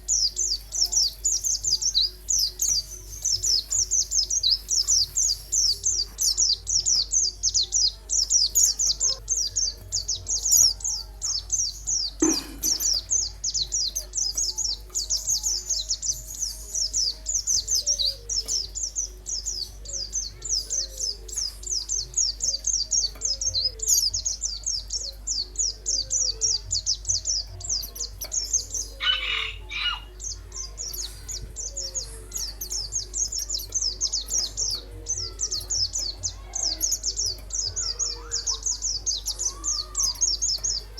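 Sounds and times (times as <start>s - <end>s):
bird calls: 0.0s - 40.9s
songbird singing high chirps: 0.0s - 40.9s.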